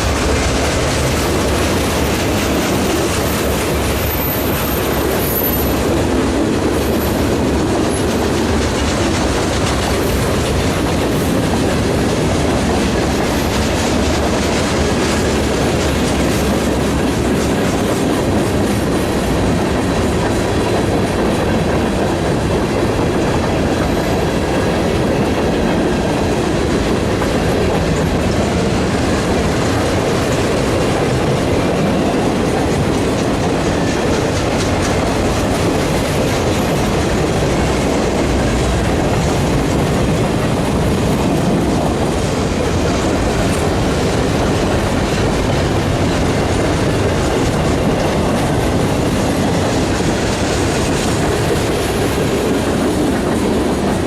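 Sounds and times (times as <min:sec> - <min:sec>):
train wheels clacking on rails: 0:00.0 - 0:54.0.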